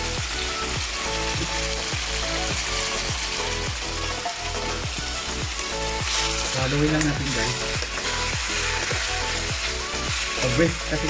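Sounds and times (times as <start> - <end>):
background music with steady beat: 0.0 - 11.0
chicken sizzling in a pan: 0.0 - 11.0.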